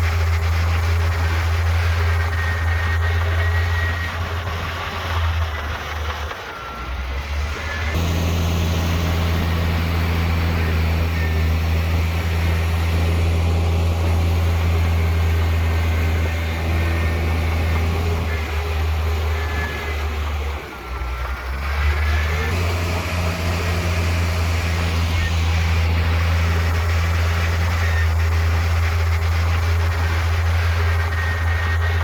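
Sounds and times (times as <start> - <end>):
heavy diesel engine humming: 0.0 - 32.0.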